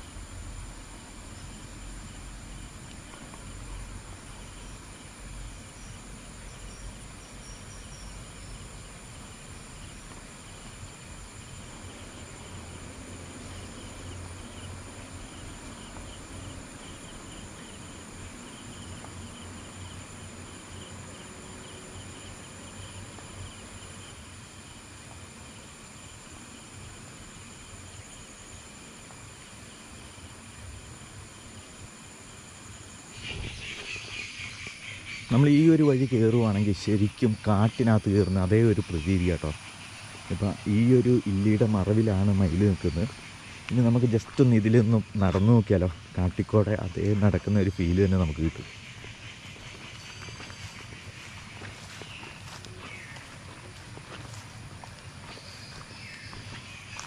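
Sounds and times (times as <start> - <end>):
insects buzzing: 0.0 - 57.0
pulsing insect trill: 0.0 - 57.0.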